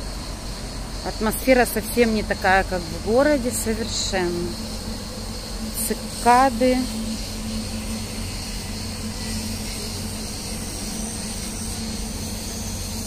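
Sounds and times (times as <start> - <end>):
cicadas singing: 0.0 - 13.0
steady low hum: 0.0 - 13.0.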